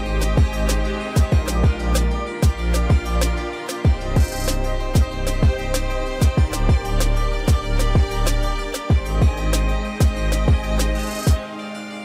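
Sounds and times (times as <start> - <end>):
music with deep kick drums: 0.0 - 11.4.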